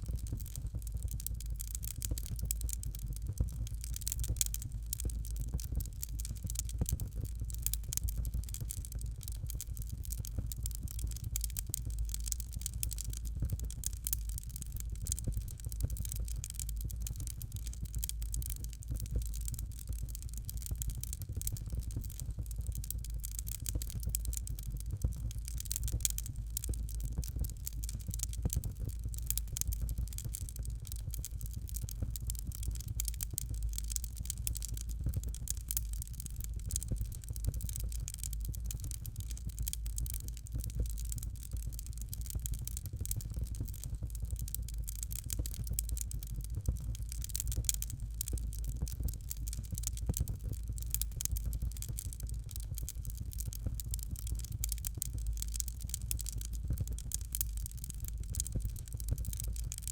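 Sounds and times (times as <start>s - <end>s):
fire crackling: 0.0s - 59.9s
low rumble of fire: 0.0s - 59.9s.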